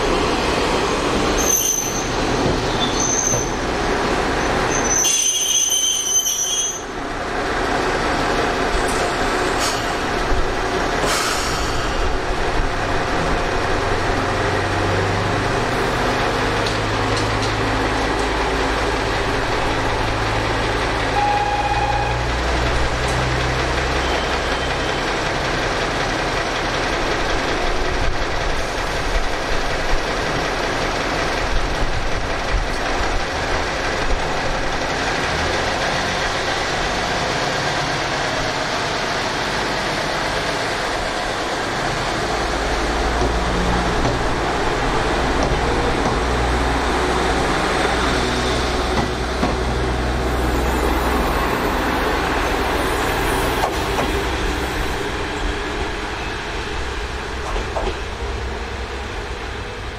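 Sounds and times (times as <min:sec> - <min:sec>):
diesel railcar engines idling: 0:00.0 - 0:59.9.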